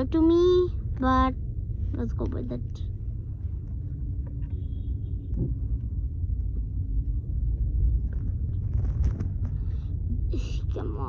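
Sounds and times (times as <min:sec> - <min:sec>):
faint hum: 0:00.0 - 0:11.0
low steady rumble: 0:00.0 - 0:11.0.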